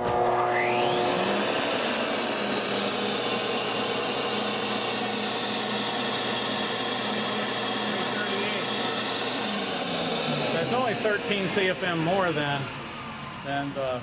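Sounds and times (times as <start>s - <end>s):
motors whining: 0.0s - 14.0s.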